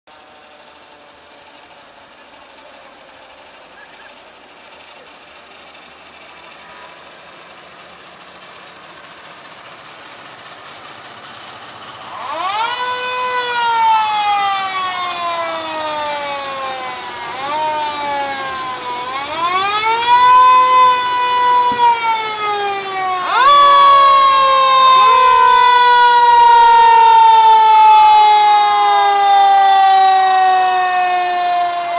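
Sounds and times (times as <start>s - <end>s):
faint passing vehicles hum: 0.1s - 29.2s
mechanical siren wailing: 0.1s - 31.9s.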